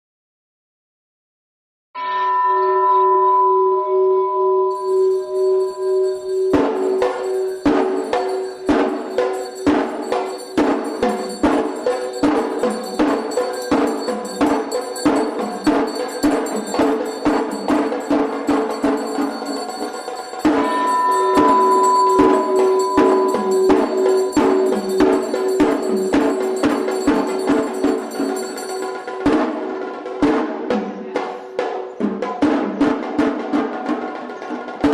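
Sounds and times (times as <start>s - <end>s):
temple bell ringing: 2.0s - 30.0s
fast temple drumming: 4.7s - 34.9s.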